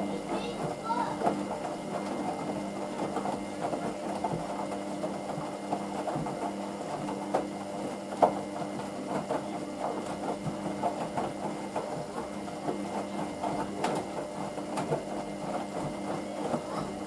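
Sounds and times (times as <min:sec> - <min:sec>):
laundry knocking and swishing in drum: 0:00.0 - 0:17.0
washing machine motor humming: 0:00.0 - 0:17.0.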